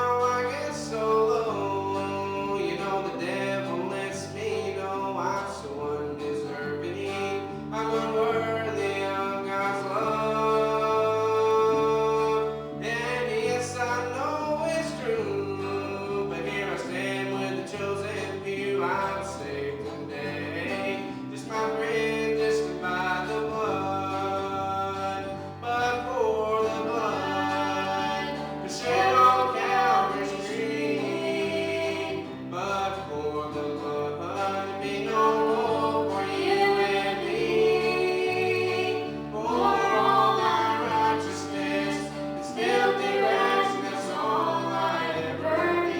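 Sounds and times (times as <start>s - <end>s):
instrumental backing with bass: 0.0s - 45.9s
voices singing gospel music: 0.0s - 45.9s.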